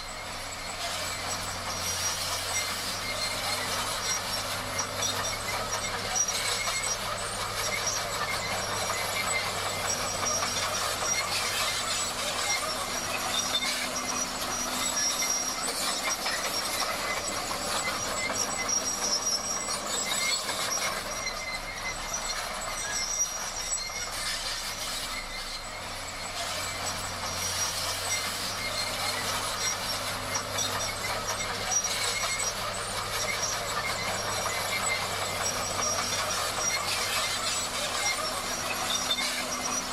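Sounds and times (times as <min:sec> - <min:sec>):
diesel engine running: 0:00.0 - 0:39.9
high squeal of tracks: 0:00.0 - 0:39.9
steel tracks clattering: 0:00.0 - 0:39.9.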